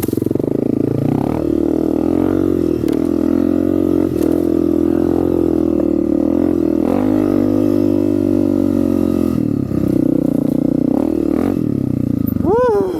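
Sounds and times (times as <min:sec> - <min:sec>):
dirt bike engine running: 0:00.0 - 0:12.9.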